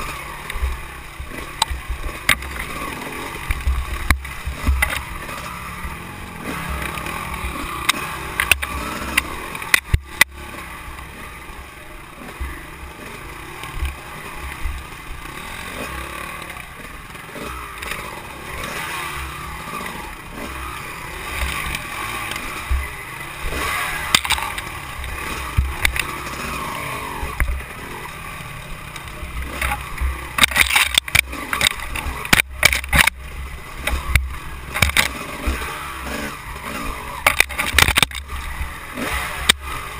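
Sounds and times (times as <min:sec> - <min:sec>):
dirt bike engine revving: 0:00.0 - 0:39.9
knocks and clicks over bumps: 0:00.0 - 0:39.9.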